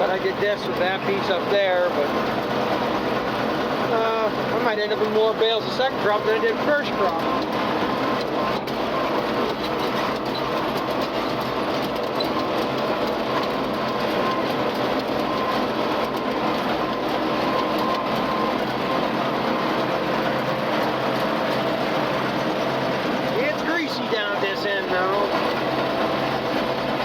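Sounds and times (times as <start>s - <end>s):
round baler working: 0.0s - 27.0s
tractor engine under load: 0.0s - 27.0s.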